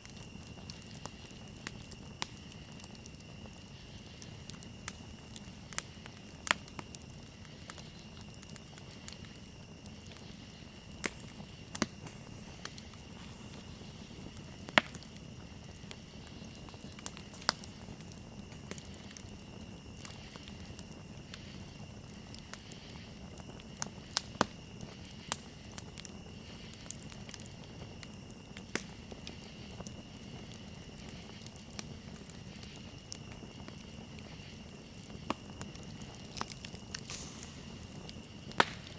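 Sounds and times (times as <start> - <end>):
rush of flame: 0.0 - 38.9
wood crackling and popping: 0.0 - 38.9.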